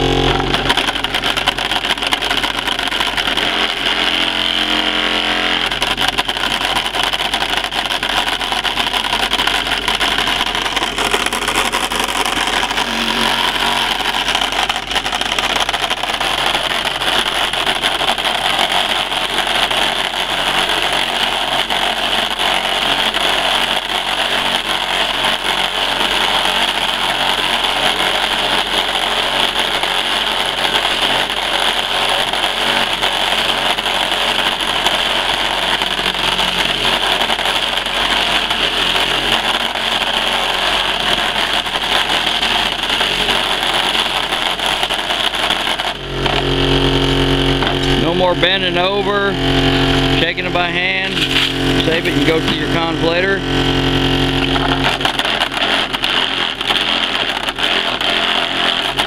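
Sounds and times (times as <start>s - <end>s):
engine water pump running: 0.0s - 59.0s
water jetting from pipe: 5.6s - 48.6s, 50.2s - 59.0s.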